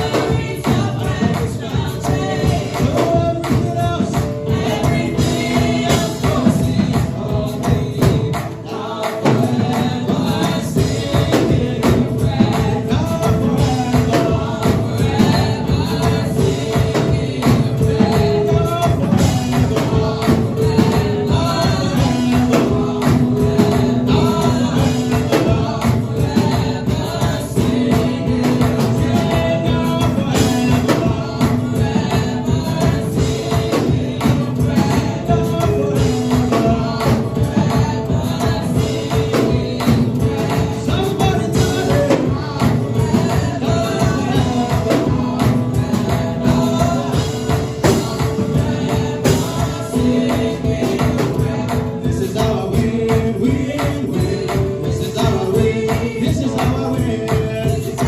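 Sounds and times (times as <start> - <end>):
choir singing gospel music: 0.0 - 58.0
driving beat: 0.0 - 58.0.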